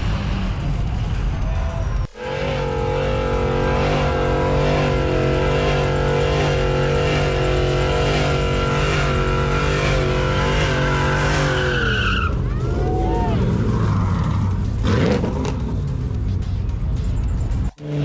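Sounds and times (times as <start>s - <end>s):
vehicle engine at high revs: 0.0s - 1.2s, 2.1s - 18.0s.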